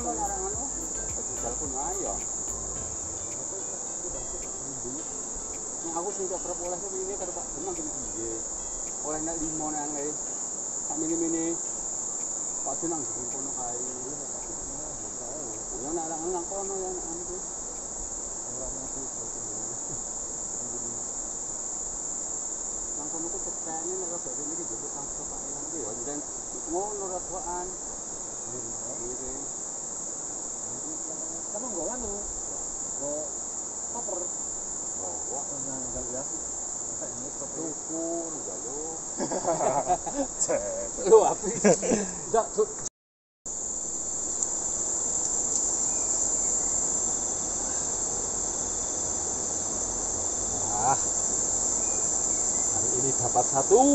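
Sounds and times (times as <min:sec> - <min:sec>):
high-pitched insect chorus: 0:00.0 - 0:42.9, 0:43.5 - 0:53.9.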